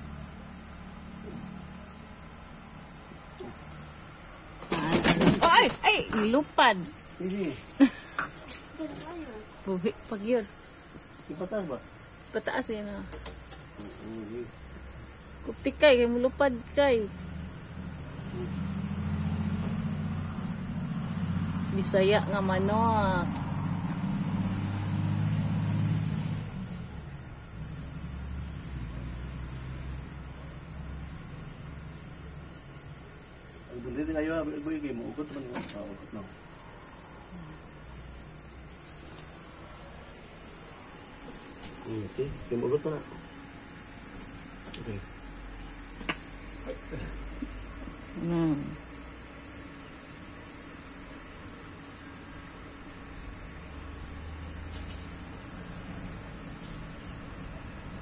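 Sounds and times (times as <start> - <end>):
chirping insects: 0.0 - 58.0.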